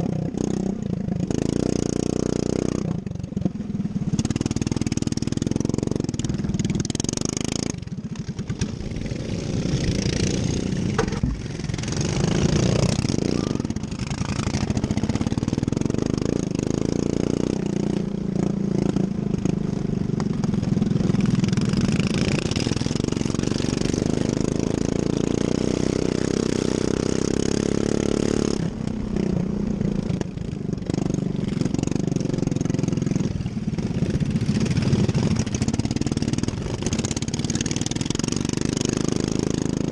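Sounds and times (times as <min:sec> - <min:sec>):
lawn mower engine revving: 0:00.0 - 0:39.9.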